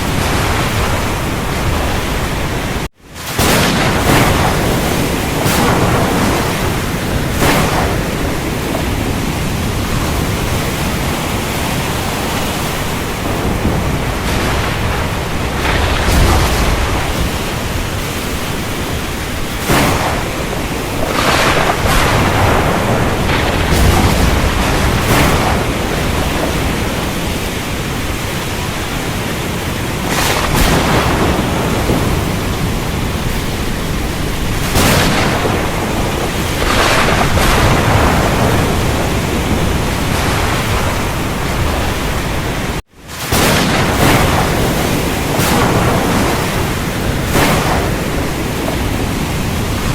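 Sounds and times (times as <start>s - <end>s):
low rolling thunder: 0.0s - 49.9s
rain hissing: 0.0s - 49.9s
sharp thunder cracks: 0.0s - 49.9s.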